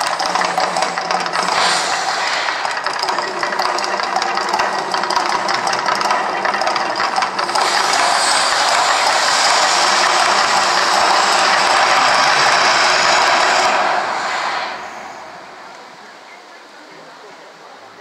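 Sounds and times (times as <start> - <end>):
gas flames crackling and hissing: 0.0 - 17.4.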